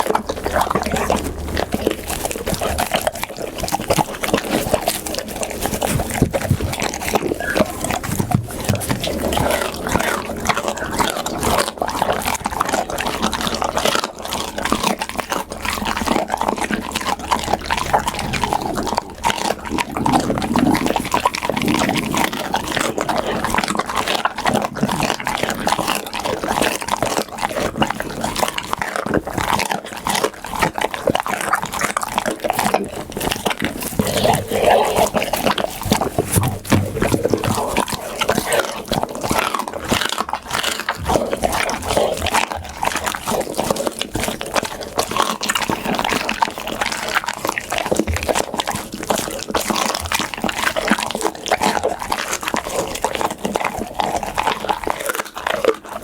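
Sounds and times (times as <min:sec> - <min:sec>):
dog chewing food: 0:00.0 - 0:56.0.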